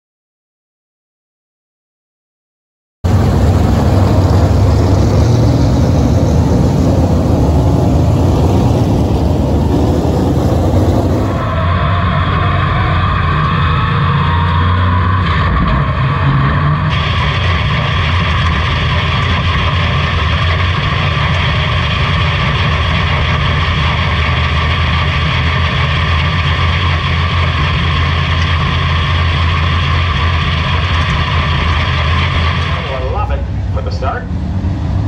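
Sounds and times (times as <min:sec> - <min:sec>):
loud race engine running: 0:03.0 - 0:35.0.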